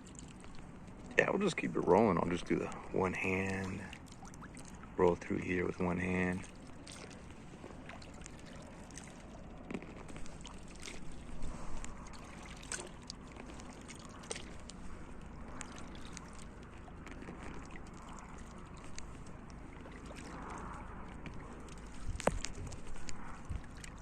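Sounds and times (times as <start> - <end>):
kayak paddle pulling through water: 0.0 - 24.0
water dripping off paddle: 0.0 - 24.0.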